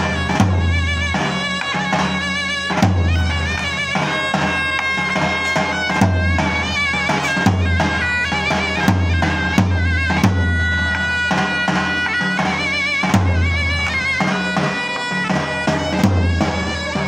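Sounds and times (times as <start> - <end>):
deep heavy drum beats: 0.0 - 17.0
reedy folk dance melody: 0.0 - 17.0.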